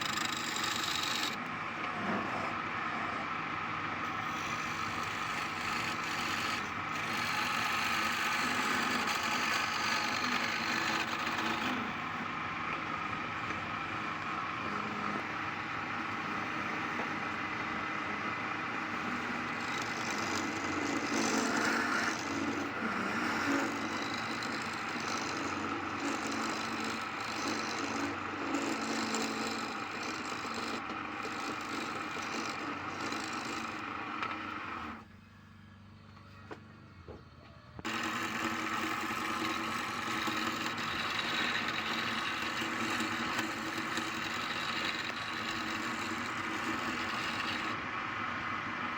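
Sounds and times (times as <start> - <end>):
tool cutting wood: 0.0 - 3.4, 4.0 - 35.0, 37.8 - 48.9
wood lathe motor hum: 0.0 - 35.1, 37.8 - 48.9.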